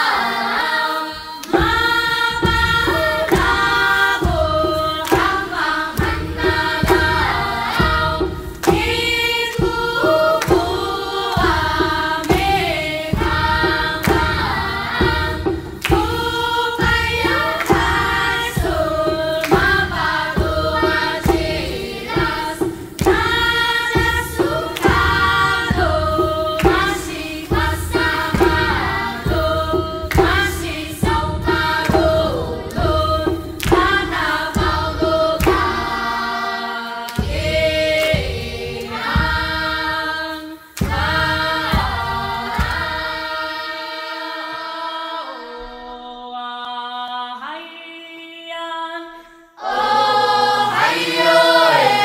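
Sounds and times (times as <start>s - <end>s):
choir singing: 0.0s - 47.8s, 49.6s - 52.0s.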